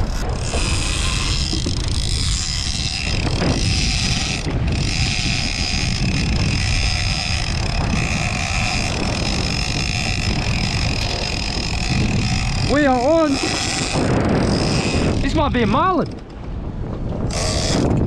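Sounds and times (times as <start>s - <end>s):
fishing reel whining: 0.0s - 16.3s, 17.2s - 18.0s
wind buffeting microphone: 0.0s - 18.0s.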